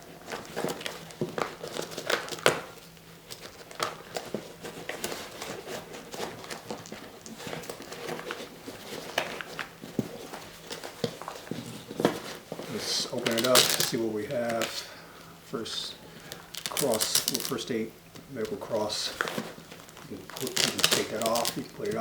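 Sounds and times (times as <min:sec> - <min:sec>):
pouch and wrapping crinkling: 0:00.0 - 0:15.0, 0:15.9 - 0:22.0.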